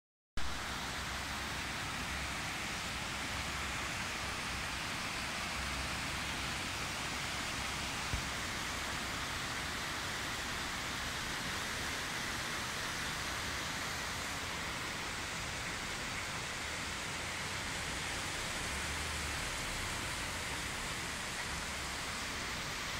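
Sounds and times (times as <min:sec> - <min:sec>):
heavy rain pouring: 0:00.4 - 0:22.9.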